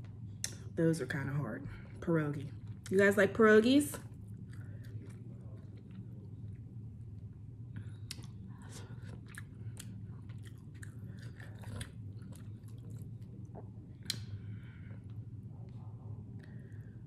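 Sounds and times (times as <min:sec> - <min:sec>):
steady low hum: 0:00.0 - 0:17.0
person chewing food: 0:01.8 - 0:02.9, 0:03.9 - 0:16.8.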